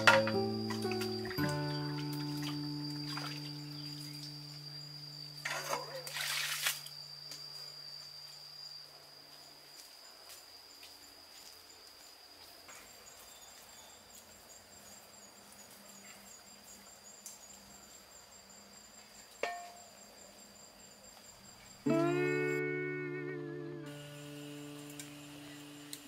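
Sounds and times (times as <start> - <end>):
high-pitched insect trilling: 0.0 - 12.2, 13.3 - 26.0
pulsing insect trill: 0.0 - 12.2, 12.8 - 26.0.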